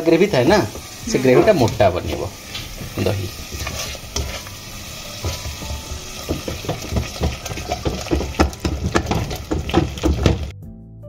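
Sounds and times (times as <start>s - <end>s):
oil sizzling: 0.0s - 10.6s
spatula scraping a steel pot: 0.6s - 10.4s.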